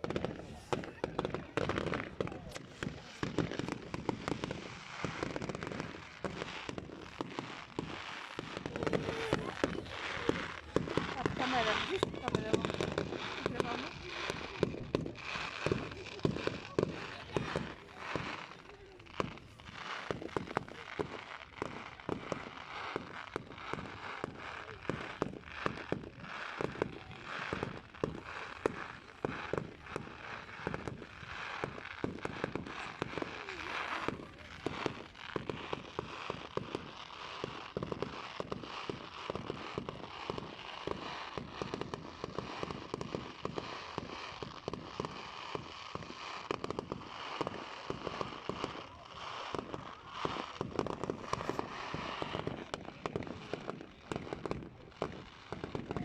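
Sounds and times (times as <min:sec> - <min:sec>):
fireworks popping and banging: 0:00.0 - 0:56.0.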